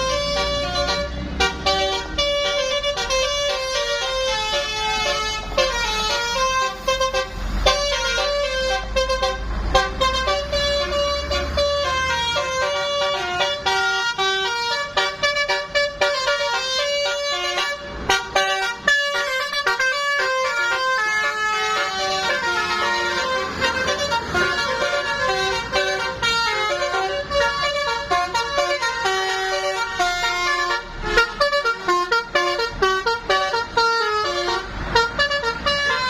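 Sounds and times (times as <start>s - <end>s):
musical bus horn playing a tune: 0.0s - 36.0s.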